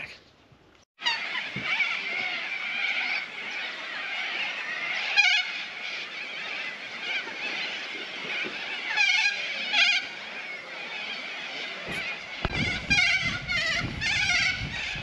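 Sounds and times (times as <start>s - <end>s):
flock of birds chattering: 0.0s - 0.4s, 1.0s - 15.0s.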